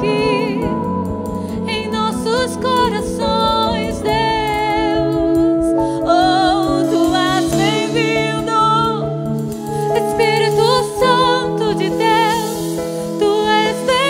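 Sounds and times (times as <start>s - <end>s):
instrumental accompaniment: 0.0s - 14.0s
woman singing with vibrato: 0.0s - 14.0s.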